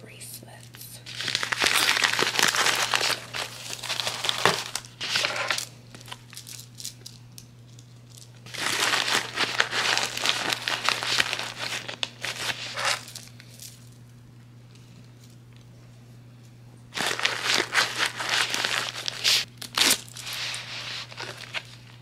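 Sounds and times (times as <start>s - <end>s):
plastic bags crinkling: 1.0s - 13.9s, 17.0s - 22.0s.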